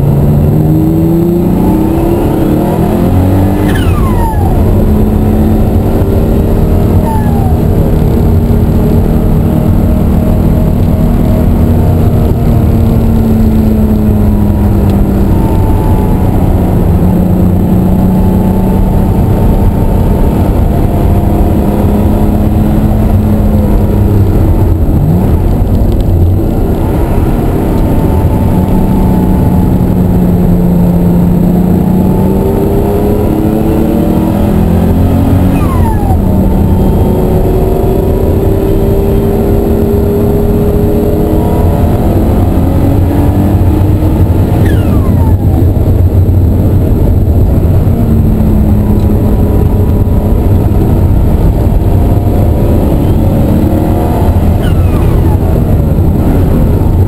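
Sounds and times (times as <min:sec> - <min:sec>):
car engine revving under acceleration: 0:00.0 - 0:57.0.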